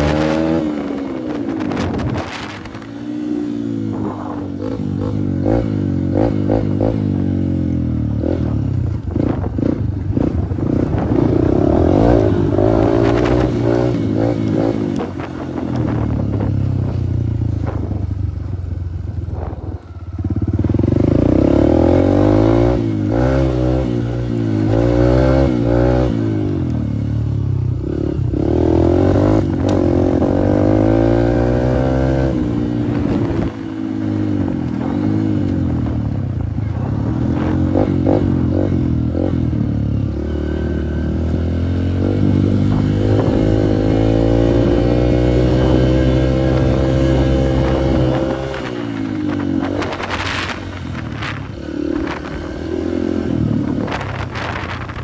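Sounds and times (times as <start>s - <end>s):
dirt bike engine revving: 0.0s - 17.0s, 19.3s - 27.0s, 27.8s - 55.0s.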